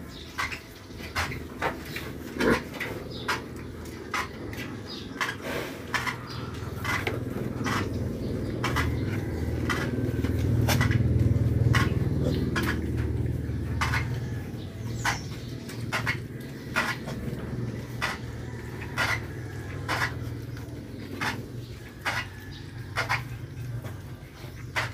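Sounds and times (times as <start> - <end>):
low rumble: 1.4 - 22.0.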